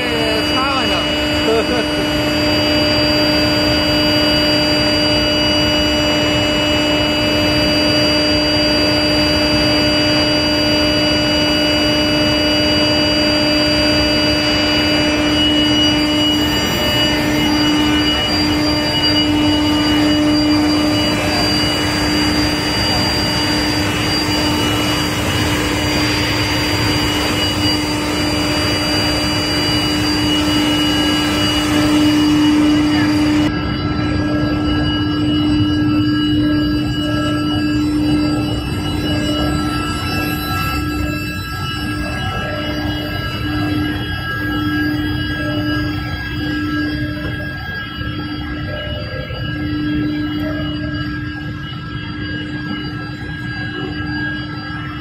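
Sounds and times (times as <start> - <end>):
high whines: 0.0 - 55.0
industrial machinery drone: 0.0 - 55.0
low hum: 0.0 - 55.0.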